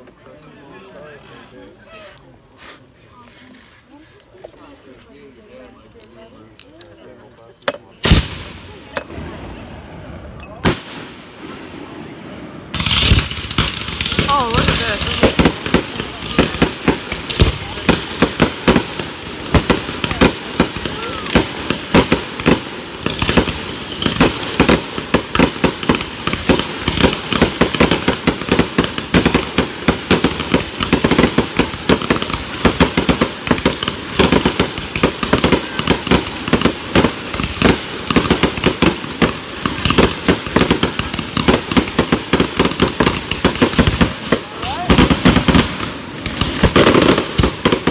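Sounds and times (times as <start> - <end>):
fireworks bangs and crackles: 7.8 - 47.9.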